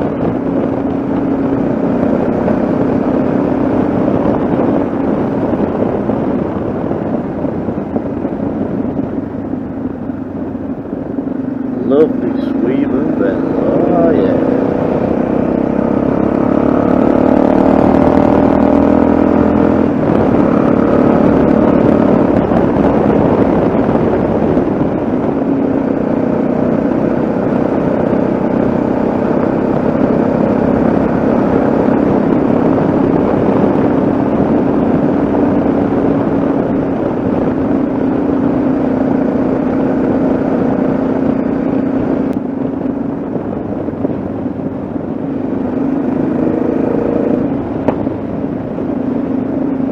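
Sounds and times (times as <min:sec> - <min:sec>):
motorcycle engine running: 0:00.0 - 0:49.9
wind and road noise: 0:00.0 - 0:49.9.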